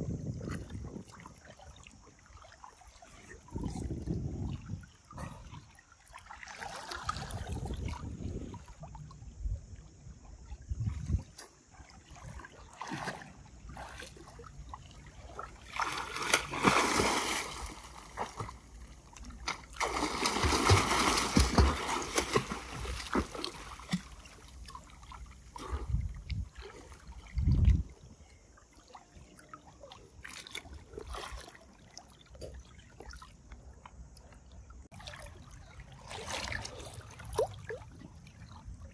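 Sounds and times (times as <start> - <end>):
water splashing and sloshing: 0.0 - 38.9.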